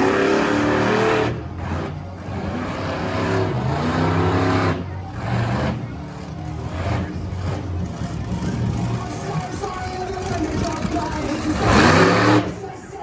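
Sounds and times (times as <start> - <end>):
monster truck engine revving: 0.0 - 12.8.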